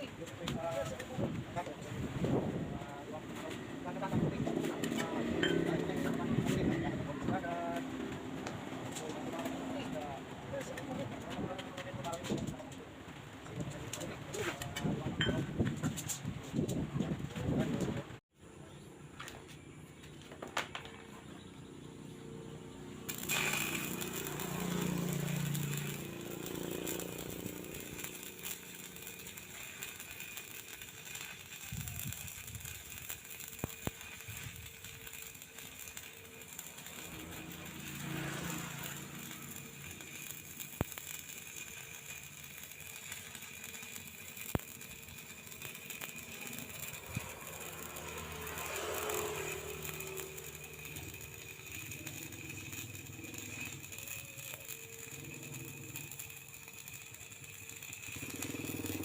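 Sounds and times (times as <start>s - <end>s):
arc welding crackling hiss: 0.0s - 17.9s, 23.0s - 59.0s.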